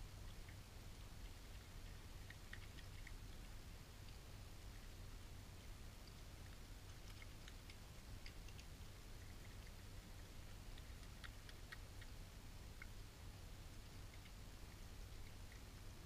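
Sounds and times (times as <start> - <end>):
badgers eating clicks and crunches: 0.0 - 16.0
low hum: 0.0 - 16.0.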